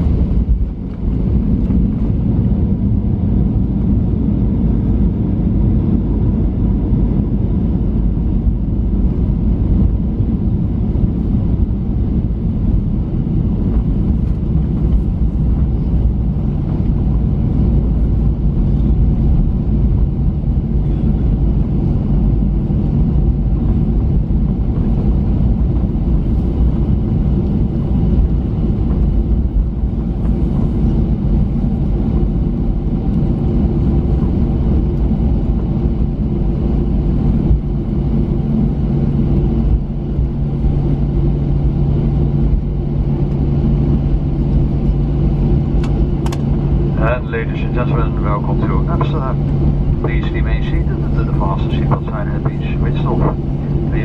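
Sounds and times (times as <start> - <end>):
jet engines idling hum: 0.0 - 54.0.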